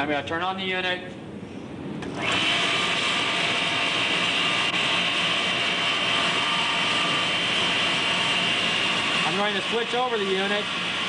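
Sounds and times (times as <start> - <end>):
motor-generator whirring with whine: 1.1 - 11.0.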